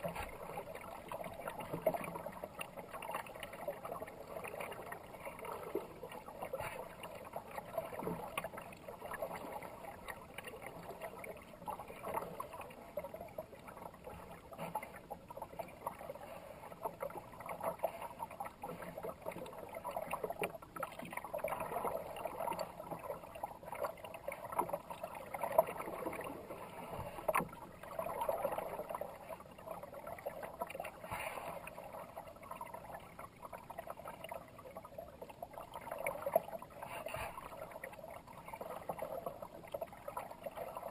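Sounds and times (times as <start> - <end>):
kayak paddle splashing: 0.0 - 32.9
water swishing past hull: 0.0 - 40.9.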